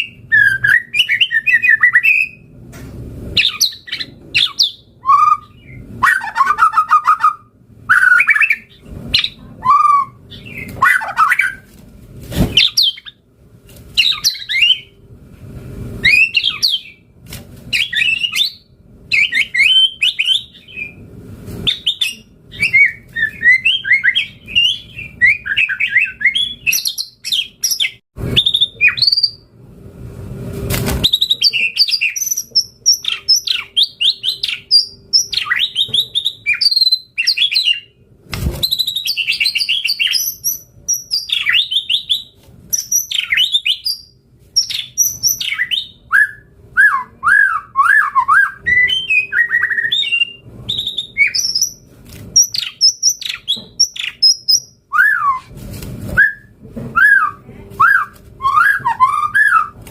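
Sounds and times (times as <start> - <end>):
bird singing whistled song: 0.0 - 2.4, 3.4 - 11.6, 14.0 - 14.9, 16.0 - 17.0, 17.7 - 21.0, 21.7 - 29.4, 31.0 - 38.0, 38.6 - 51.8, 52.4 - 55.5, 56.2 - 59.8.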